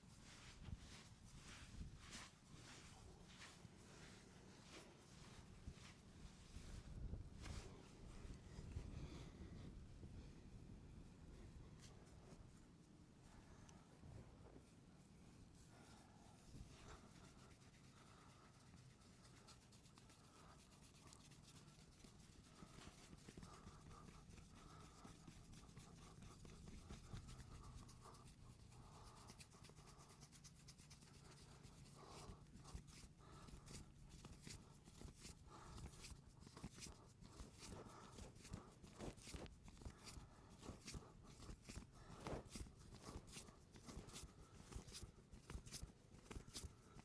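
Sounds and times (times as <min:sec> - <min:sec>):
hands massaging scalp through hair: 0:00.0 - 0:08.9, 0:15.6 - 0:47.0
faint low hum: 0:00.0 - 0:47.0.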